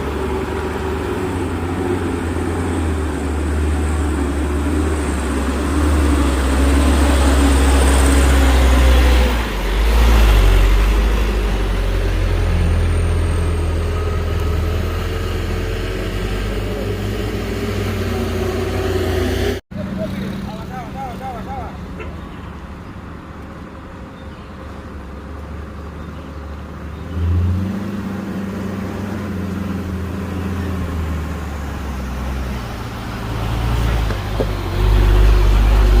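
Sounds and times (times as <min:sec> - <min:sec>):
truck diesel engine labouring: 0:00.0 - 0:36.0.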